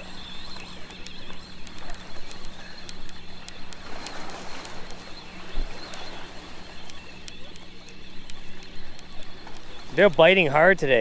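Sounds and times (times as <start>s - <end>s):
faint ticks: 0.0s - 11.0s
steady low hum: 0.0s - 11.0s.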